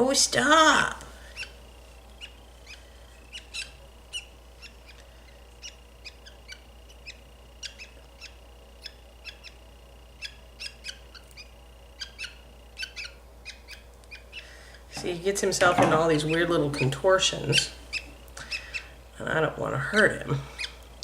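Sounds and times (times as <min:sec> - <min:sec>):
budgerigar chirping: 0:01.2 - 0:19.0, 0:20.5 - 0:20.8.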